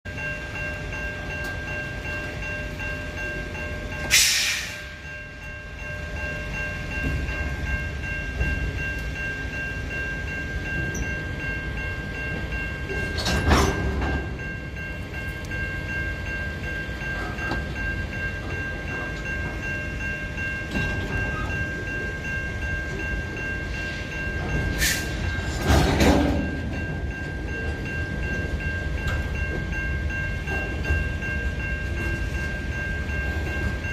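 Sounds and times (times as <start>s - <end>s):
freight train rumbling: 0.0s - 33.9s.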